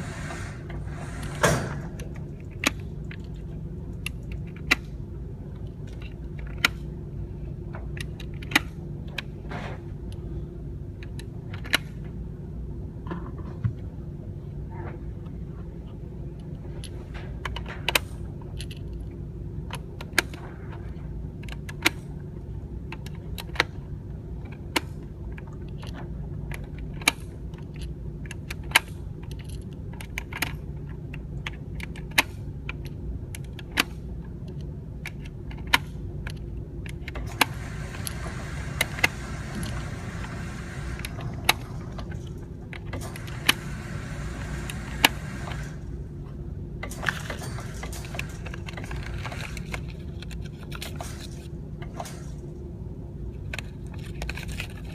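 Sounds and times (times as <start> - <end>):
low steady rumble: 0.0 - 54.9.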